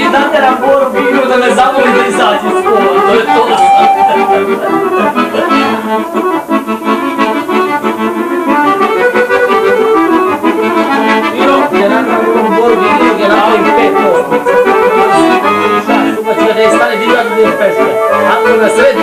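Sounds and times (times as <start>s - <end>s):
button accordion folk tune: 0.0s - 19.0s.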